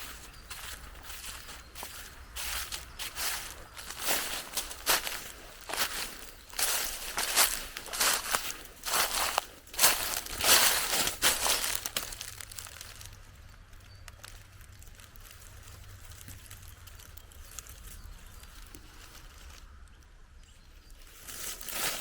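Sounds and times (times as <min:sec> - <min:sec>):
footsteps crunching on dry path: 0:00.0 - 0:19.7, 0:21.1 - 0:22.0.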